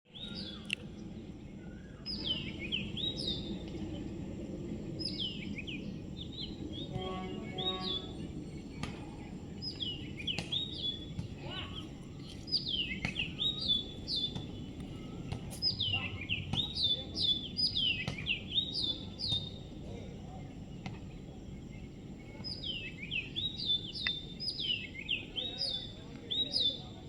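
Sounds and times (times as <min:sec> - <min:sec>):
small songbird chirping: 0:00.1 - 0:27.0
low background hum: 0:00.2 - 0:27.0.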